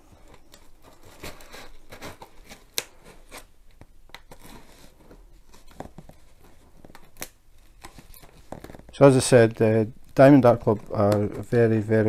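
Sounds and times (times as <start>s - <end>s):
tape crackling and tearing: 0.2s - 11.8s.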